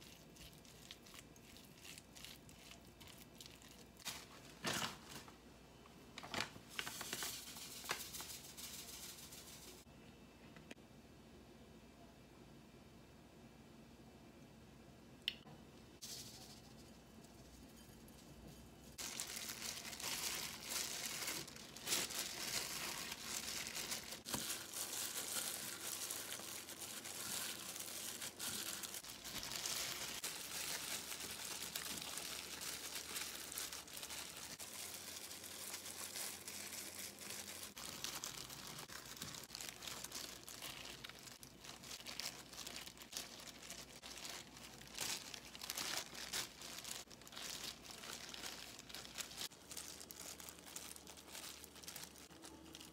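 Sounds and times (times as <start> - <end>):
plastic gloves crinkling: 0.0 - 9.9, 16.0 - 52.9.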